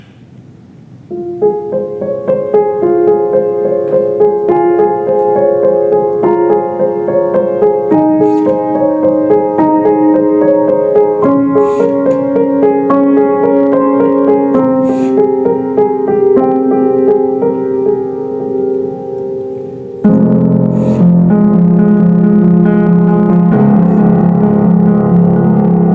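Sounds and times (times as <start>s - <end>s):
keyboard music with held chords: 1.1s - 25.9s.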